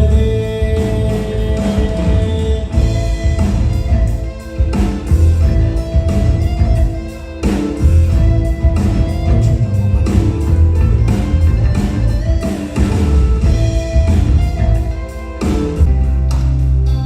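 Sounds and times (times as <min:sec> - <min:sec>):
live band instrumental: 0:00.0 - 0:17.0.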